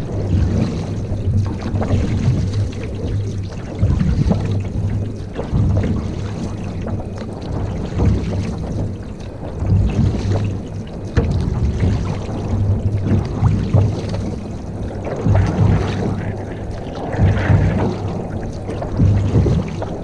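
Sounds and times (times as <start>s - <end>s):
paddle splashing water: 0.0s - 20.0s
wind buffeting microphone: 0.0s - 20.0s.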